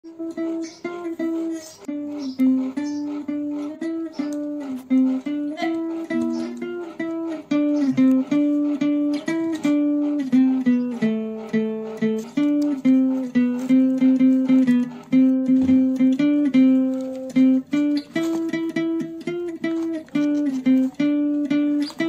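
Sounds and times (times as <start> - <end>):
plucked guitar melody: 0.0 - 22.0.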